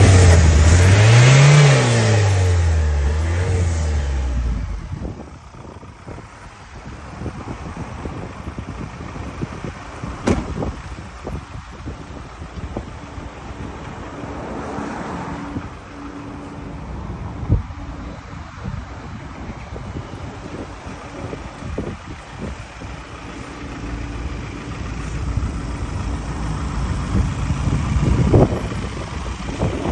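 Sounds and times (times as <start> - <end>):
diesel engine running: 0.0 - 29.9
wind gusting on microphone: 3.5 - 29.9.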